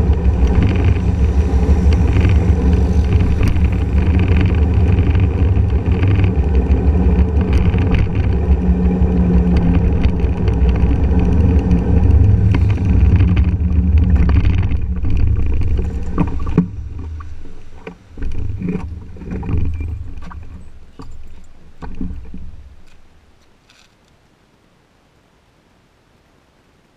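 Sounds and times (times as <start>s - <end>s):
scooter engine: 0.0s - 23.0s
knocks and clicks: 0.0s - 23.1s
wind rumble: 0.0s - 23.4s.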